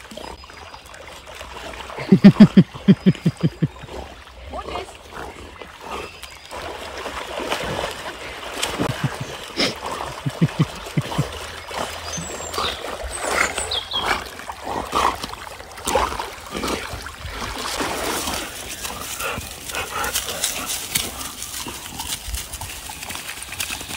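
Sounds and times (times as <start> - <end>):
water splashing and sloshing: 0.0 - 23.9.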